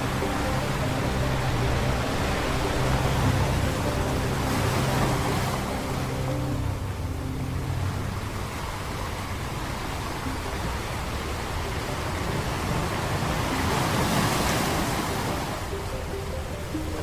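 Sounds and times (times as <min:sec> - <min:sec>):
ocean waves on beach: 0:00.0 - 0:17.0.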